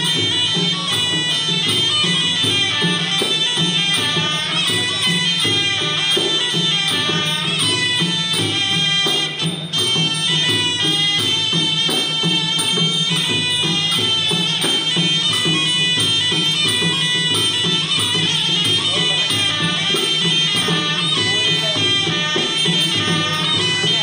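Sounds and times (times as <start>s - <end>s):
reed oboe melody: 0.0s - 24.0s
steady drum rhythm: 0.0s - 24.0s.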